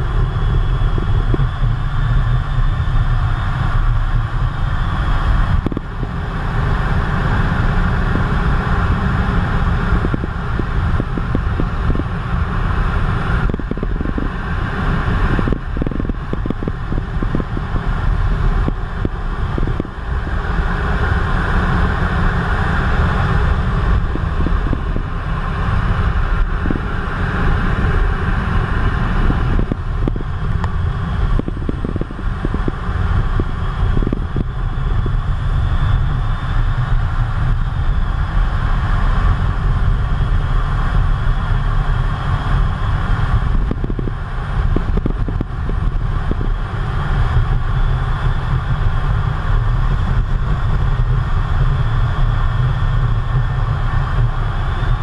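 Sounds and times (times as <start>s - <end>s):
jet engine and air rumble: 0.0s - 55.0s
wind buffeting on microphone: 0.0s - 55.0s.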